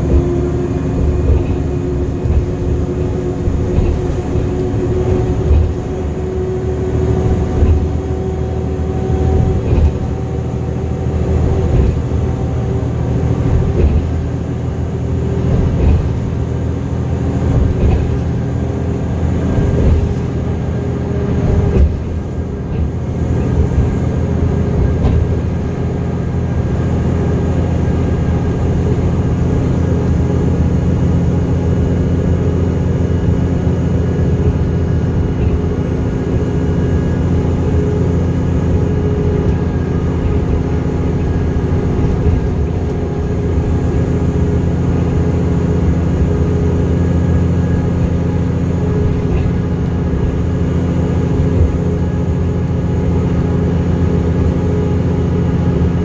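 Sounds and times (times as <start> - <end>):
bus engine hum: 0.0 - 56.0
road rumble: 0.0 - 56.0.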